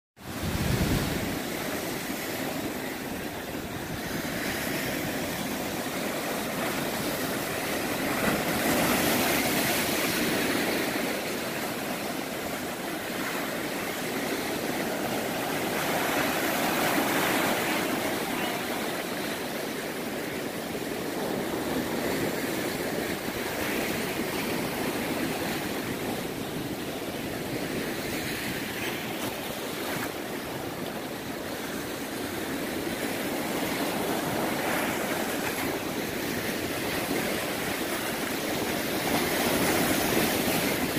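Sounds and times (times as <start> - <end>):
ocean surf breaking: 0.2 - 40.9.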